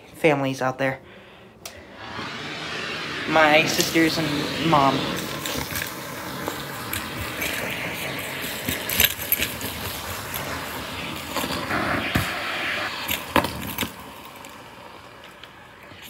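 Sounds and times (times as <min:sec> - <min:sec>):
vacuum air rushing through hose: 0:01.6 - 0:16.0.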